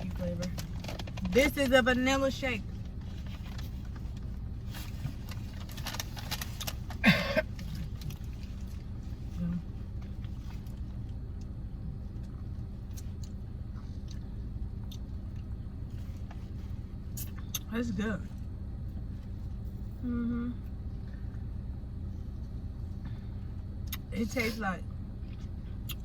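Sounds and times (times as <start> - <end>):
steady low hum with tone: 0.0 - 26.0.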